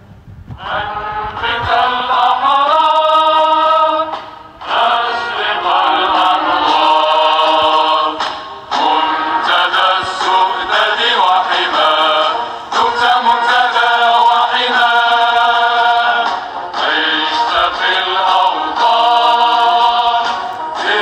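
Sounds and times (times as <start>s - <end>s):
voices singing a chant: 0.6s - 21.0s.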